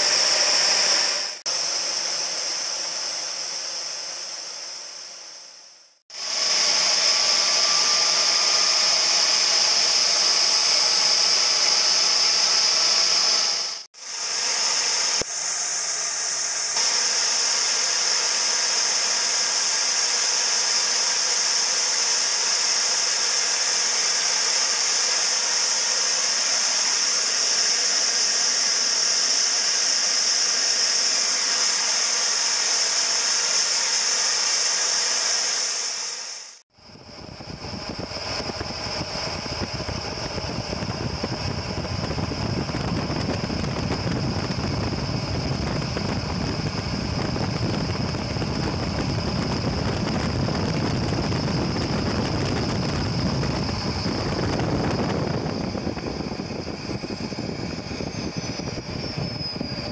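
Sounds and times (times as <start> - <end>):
high turbine whine: 0.0 - 59.9.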